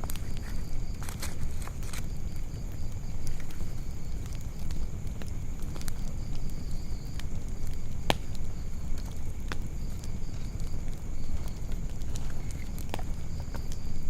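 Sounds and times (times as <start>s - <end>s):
campfire crackling: 0.0s - 14.0s
low steady rumble: 0.0s - 14.0s.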